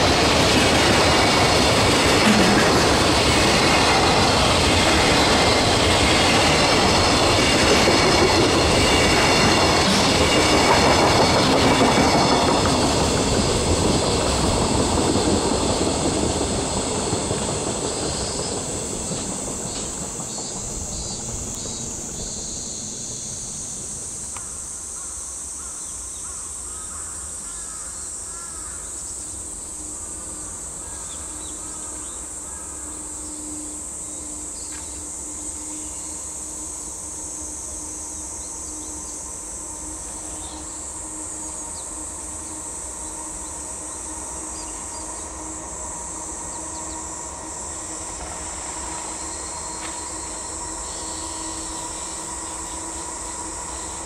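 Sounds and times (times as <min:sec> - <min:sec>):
freight train rolling past: 0:00.0 - 0:26.7, 0:27.3 - 0:54.0
high insect drone: 0:00.0 - 0:54.0.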